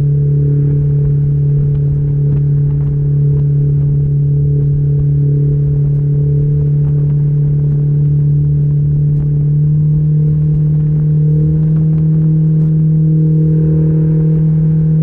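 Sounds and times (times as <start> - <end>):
low rumble: 0.0 - 15.0
outboard motor droning: 0.0 - 15.0.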